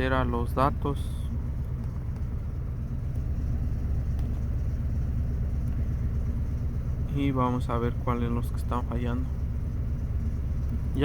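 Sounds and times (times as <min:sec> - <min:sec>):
engine idling with misfires: 0:00.0 - 0:11.0.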